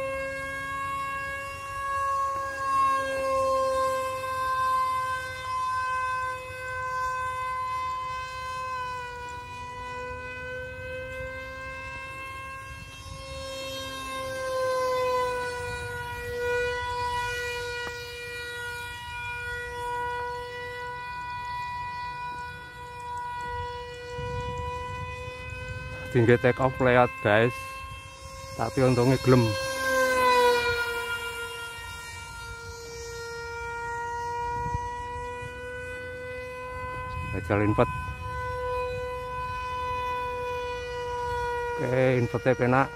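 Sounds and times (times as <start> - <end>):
electric motor whine of model jet: 0.0 - 42.9.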